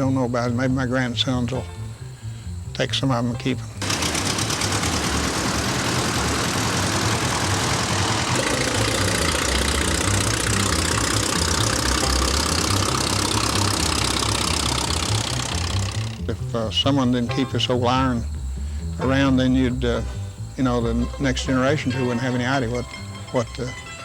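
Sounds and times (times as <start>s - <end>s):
tractor engine running: 2.6s - 24.0s.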